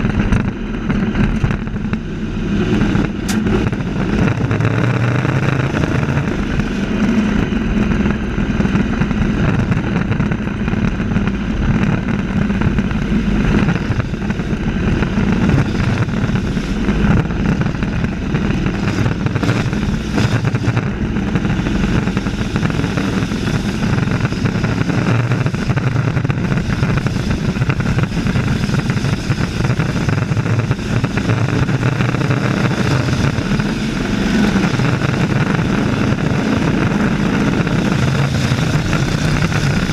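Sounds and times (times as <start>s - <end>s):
race truck engines droning: 0.0s - 39.9s.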